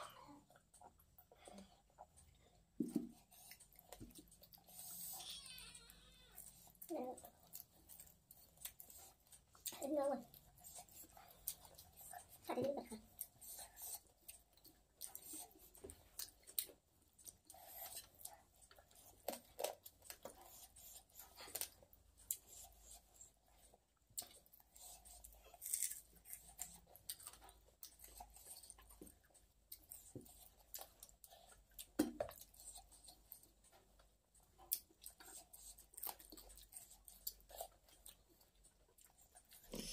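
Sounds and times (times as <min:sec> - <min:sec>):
chewing and mouth smacks: 0:00.0 - 0:05.1, 0:06.4 - 0:39.9.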